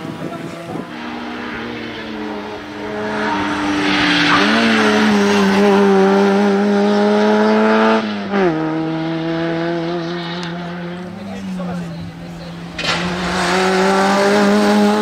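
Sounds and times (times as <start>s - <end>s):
car engine revving past: 0.0s - 15.0s.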